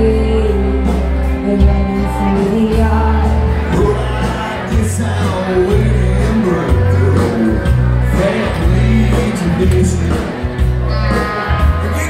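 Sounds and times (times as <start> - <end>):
drums: 0.0 - 12.0
heavy bass line: 0.0 - 12.0
live rock band playing: 0.0 - 12.0
person singing: 0.0 - 12.0.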